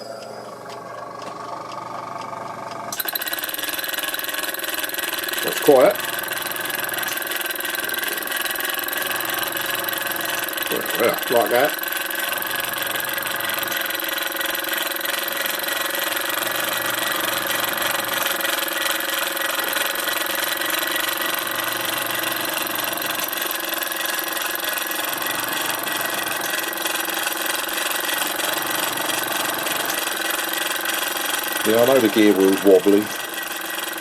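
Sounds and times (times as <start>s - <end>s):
small mechanism whirring: 0.0s - 34.0s.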